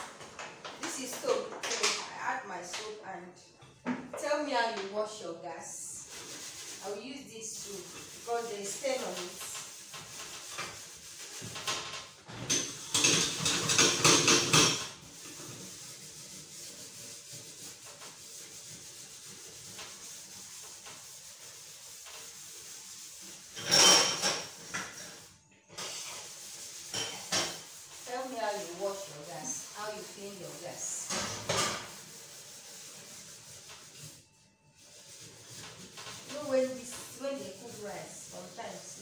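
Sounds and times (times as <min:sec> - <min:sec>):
scrubbing metal hob: 0:06.0 - 0:39.0.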